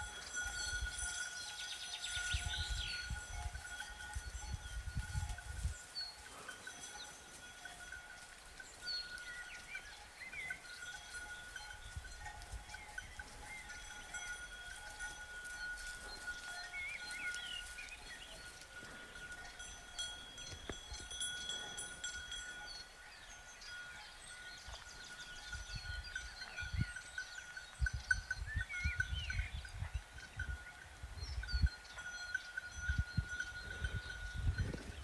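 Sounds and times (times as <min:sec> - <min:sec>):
birds chirping: 0:00.0 - 0:35.0
cowbells ringing: 0:00.0 - 0:35.0.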